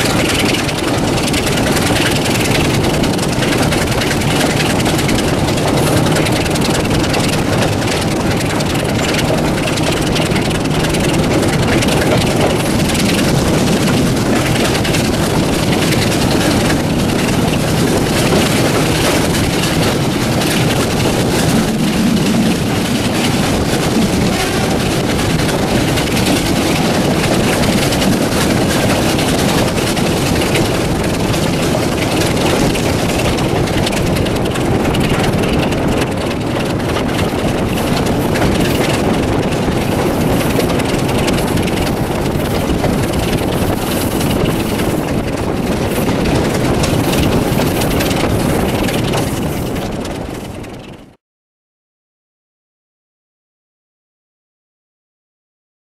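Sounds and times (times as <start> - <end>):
diesel locomotive engine: 0.0 - 51.2
train wheels on rails: 0.0 - 51.2
wind rush: 0.0 - 51.2.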